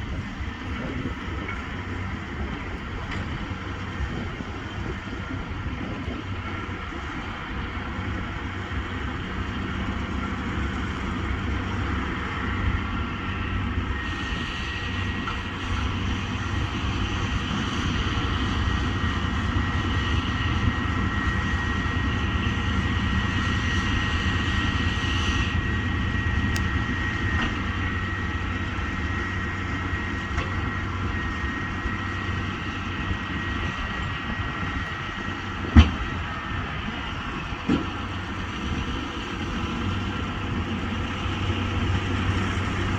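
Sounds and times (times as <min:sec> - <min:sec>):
tractor engine hum with whine: 0:00.0 - 0:42.9.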